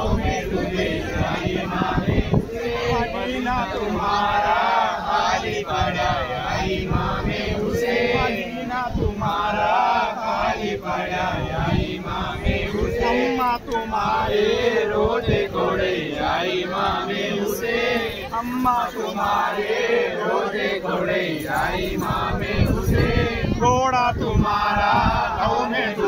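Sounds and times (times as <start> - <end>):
men chanting in unison: 0.0 - 26.0.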